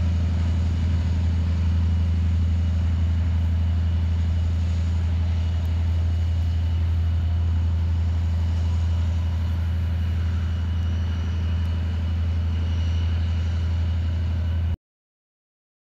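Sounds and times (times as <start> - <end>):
diesel locomotive engine droning: 0.0 - 14.8.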